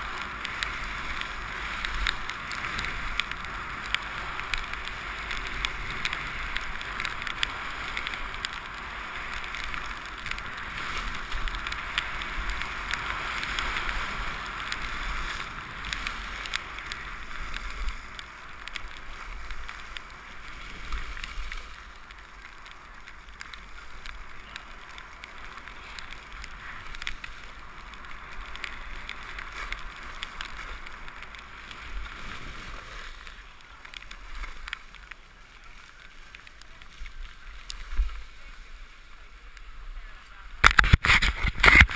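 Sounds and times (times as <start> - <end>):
skis scraping over snow: 0.0 - 41.9
wind rumbling on microphone: 0.0 - 41.9.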